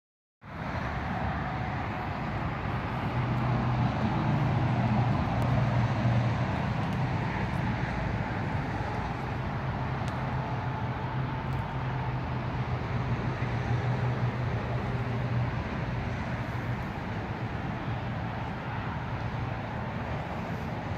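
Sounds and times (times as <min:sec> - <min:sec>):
vehicle engine humming: 0:00.5 - 0:20.9.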